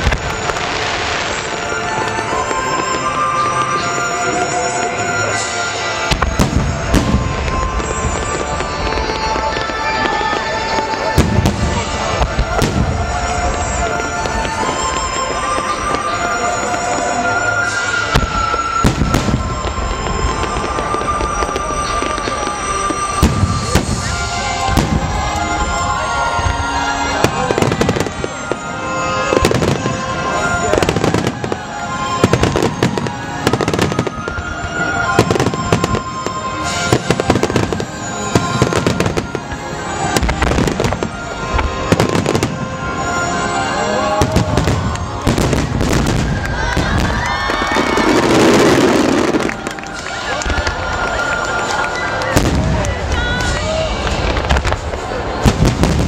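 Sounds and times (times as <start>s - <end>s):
fireworks bursting: 0.0s - 56.0s
music playing: 0.0s - 56.0s.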